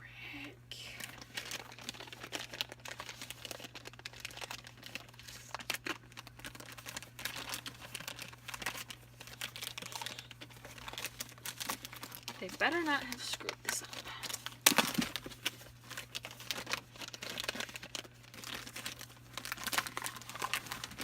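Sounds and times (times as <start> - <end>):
packaging crinkling and rustling: 0.9 - 21.0.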